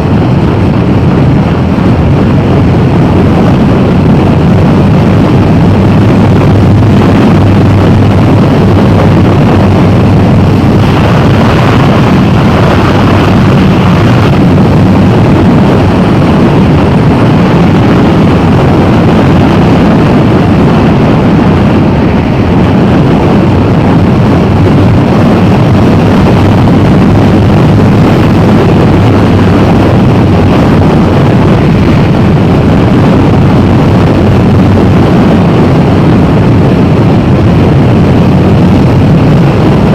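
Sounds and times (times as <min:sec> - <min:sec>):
motorcycle engine drone: 0:00.0 - 0:39.9
rushing wind noise: 0:00.0 - 0:39.9.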